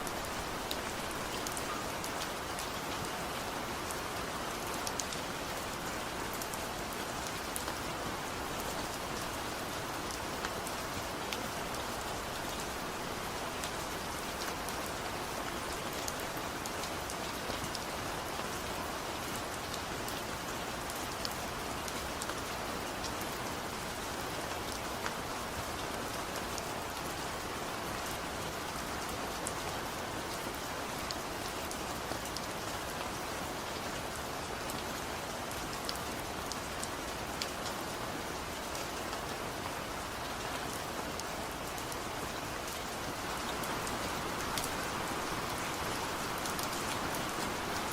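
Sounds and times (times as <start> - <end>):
light rain pattering: 0.0 - 47.9.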